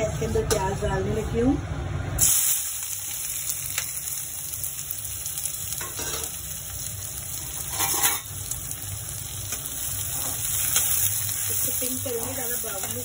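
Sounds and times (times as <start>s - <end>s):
onions sizzling in hot oil: 2.1s - 13.0s.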